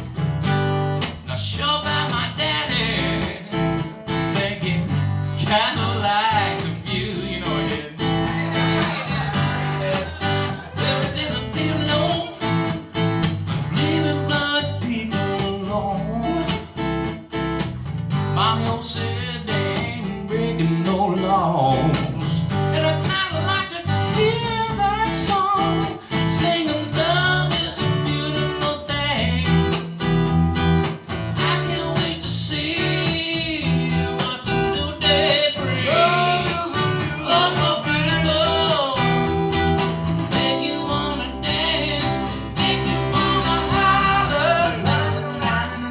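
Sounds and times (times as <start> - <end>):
live band music with guitars: 0.0 - 45.9
person singing: 1.6 - 12.9, 13.6 - 16.6, 18.5 - 29.5, 31.4 - 39.2, 40.4 - 45.9.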